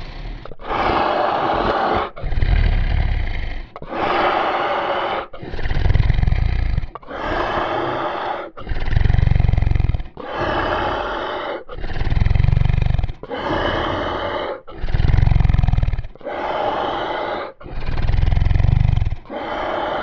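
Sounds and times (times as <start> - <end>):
zombie growling: 0.0 - 20.0.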